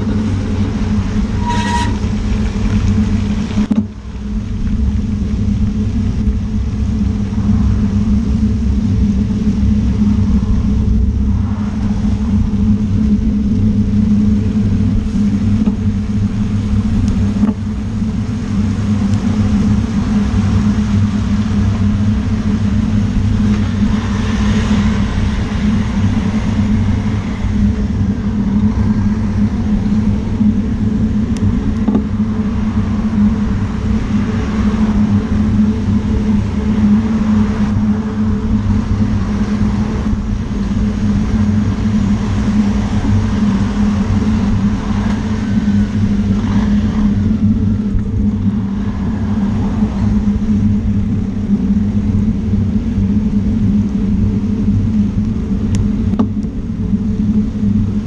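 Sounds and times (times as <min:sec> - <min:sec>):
traffic on a wet road: 0:00.0 - 0:58.0.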